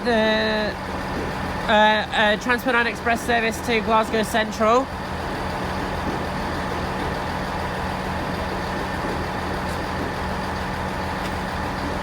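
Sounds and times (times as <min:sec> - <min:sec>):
train engine hum: 0:00.0 - 0:12.0.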